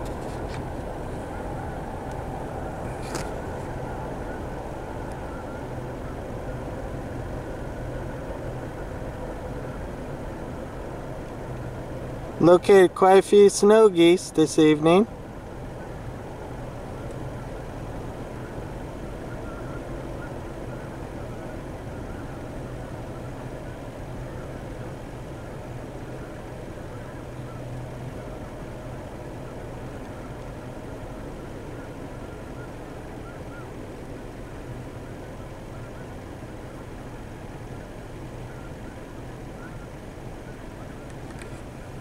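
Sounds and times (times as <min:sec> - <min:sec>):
geese calling: 0:00.0 - 0:42.0
vehicle engine idling: 0:00.0 - 0:42.0.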